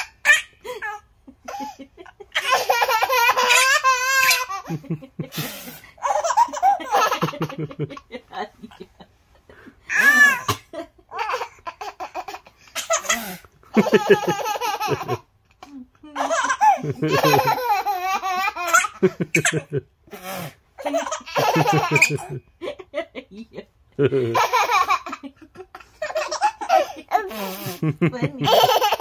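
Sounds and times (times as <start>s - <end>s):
baby laughing: 0.0s - 5.0s, 6.0s - 8.8s, 9.9s - 19.8s, 20.8s - 22.4s, 24.0s - 29.0s.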